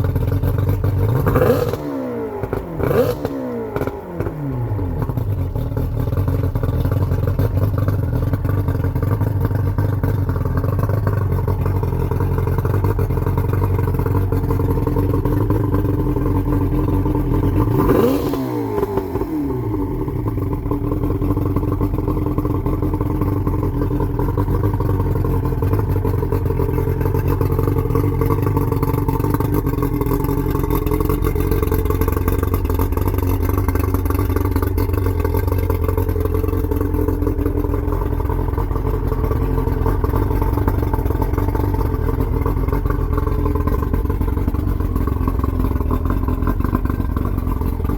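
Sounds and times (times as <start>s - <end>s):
outboard motor running: 0.0s - 47.9s.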